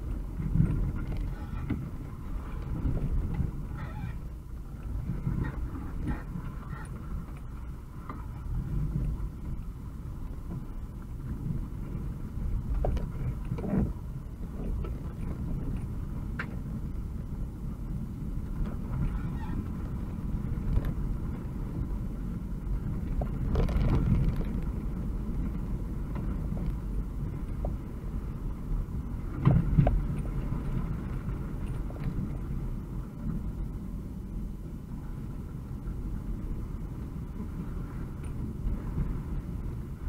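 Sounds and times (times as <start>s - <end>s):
van engine and road noise: 0.0s - 40.0s.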